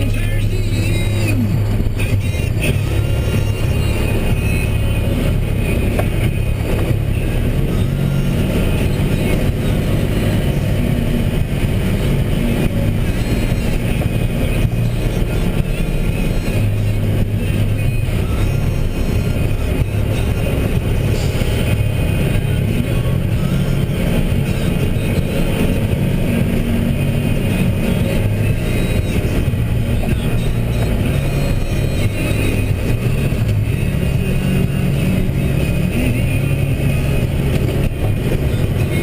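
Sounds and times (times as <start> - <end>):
diesel truck engine droning: 0.0 - 39.0.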